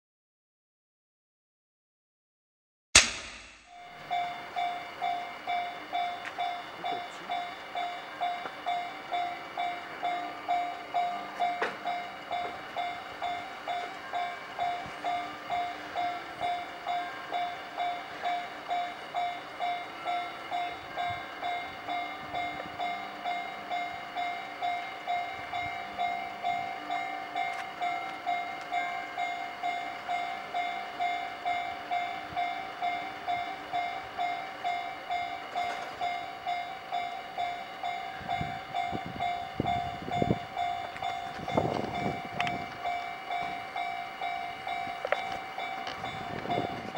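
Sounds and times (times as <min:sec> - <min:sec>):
level crossing bell ringing: 0:03.7 - 0:46.9.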